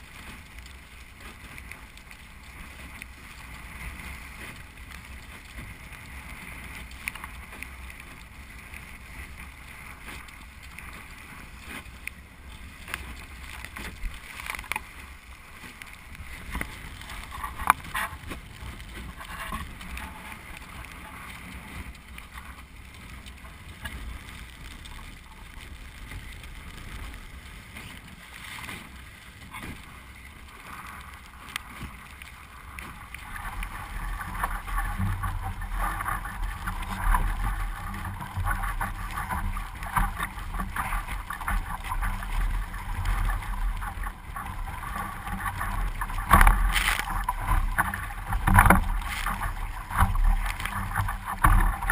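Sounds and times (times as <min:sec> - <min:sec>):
water rushing along hull: 0:00.0 - 0:51.9.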